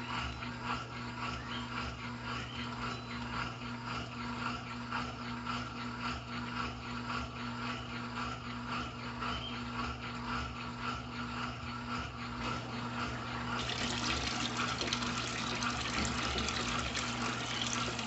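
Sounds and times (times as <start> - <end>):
rhythmic swishing of water: 0.0 - 18.0
washing machine motor hum: 0.0 - 18.0.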